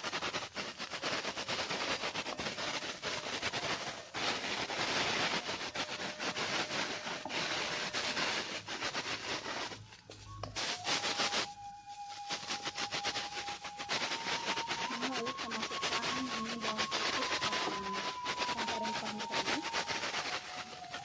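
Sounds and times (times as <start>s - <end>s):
shallots sizzling in hot oil: 3.9s - 21.0s.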